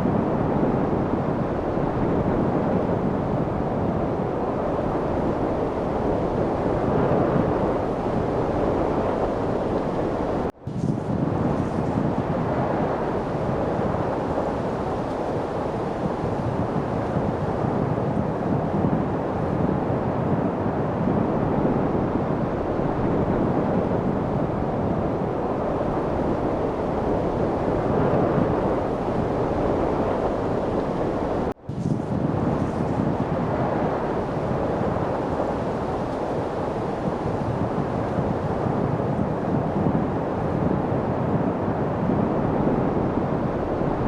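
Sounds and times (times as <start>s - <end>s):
steady wind blowing: 0.0s - 44.0s.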